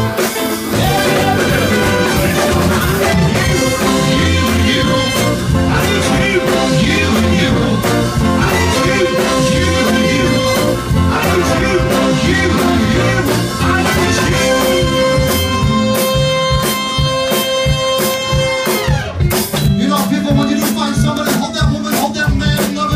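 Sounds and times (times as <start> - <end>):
blues band with horns: 0.0 - 22.9
person singing: 0.7 - 17.0, 19.6 - 22.9.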